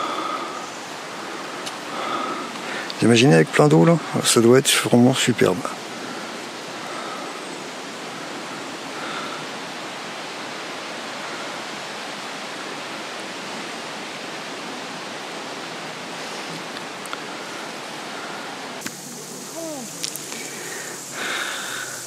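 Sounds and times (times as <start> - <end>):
fountain water rushing: 0.0 - 22.0.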